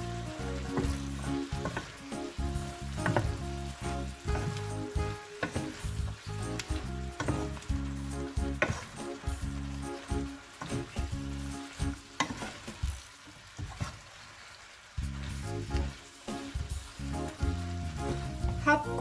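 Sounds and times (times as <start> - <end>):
food sizzling in a pan: 0.0 - 19.0
spatula knocking and scraping pan: 0.2 - 14.0, 15.2 - 19.0.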